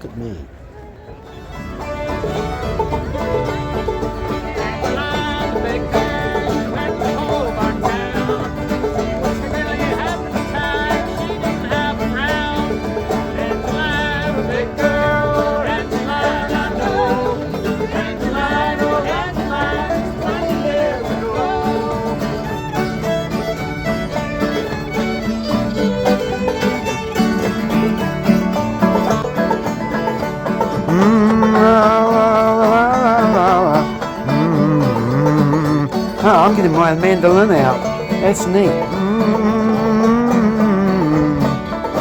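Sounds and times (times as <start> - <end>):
fiddle melody: 0.2 - 42.0
fast-picked banjo: 0.7 - 42.0.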